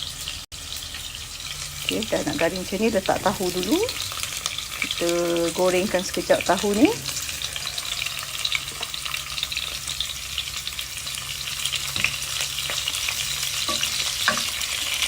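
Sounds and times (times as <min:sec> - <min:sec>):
tofu frying in hot oil: 0:00.0 - 0:15.0.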